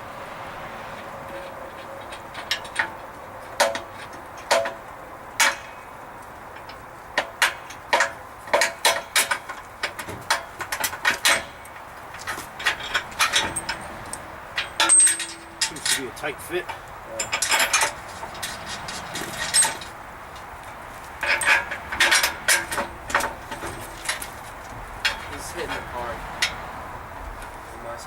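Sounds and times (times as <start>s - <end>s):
hand tools clicking on metal bolts: 1.8s - 26.6s.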